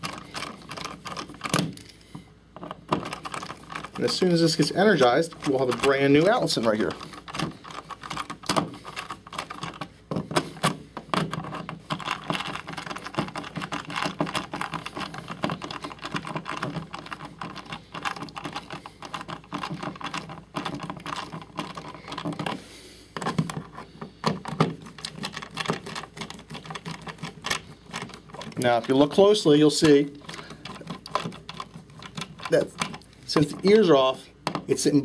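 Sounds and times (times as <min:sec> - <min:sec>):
clicking and scraping: 0:00.0 - 0:35.0.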